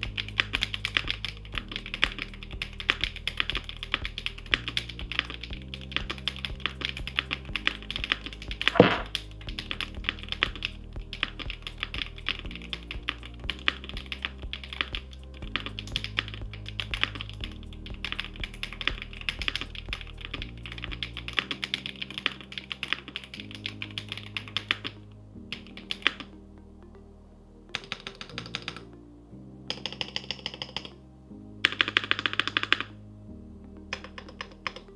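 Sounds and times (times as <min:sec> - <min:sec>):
background music with low notes: 0:00.0 - 0:34.9.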